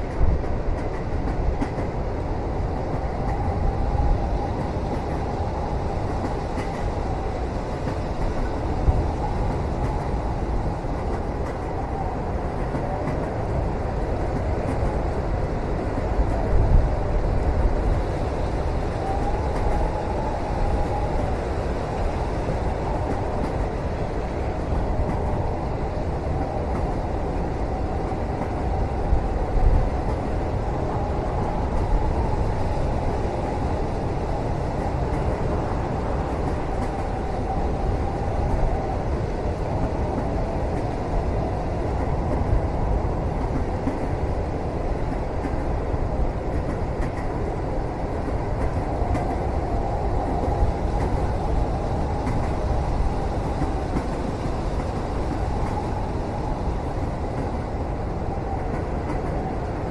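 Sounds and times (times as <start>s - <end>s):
train rumbling inside carriage: 0.0s - 59.9s.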